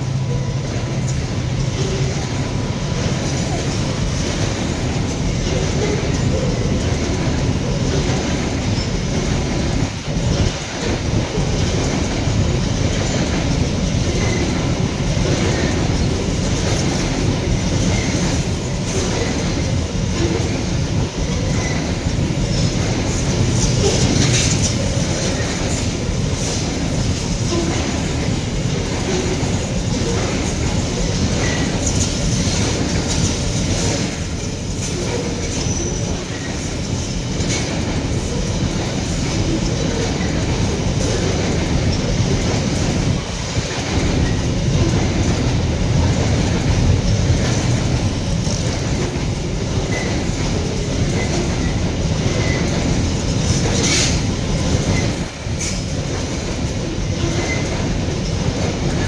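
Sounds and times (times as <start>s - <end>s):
train wheels rumbling on rail: 0.0s - 59.0s
wheels clattering over rail joints: 0.0s - 59.0s.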